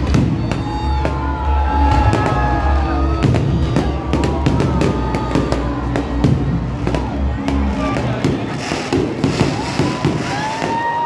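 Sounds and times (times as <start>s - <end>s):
loud music with heavy bass: 0.0s - 9.8s
fireworks banging and crackling: 0.0s - 11.0s.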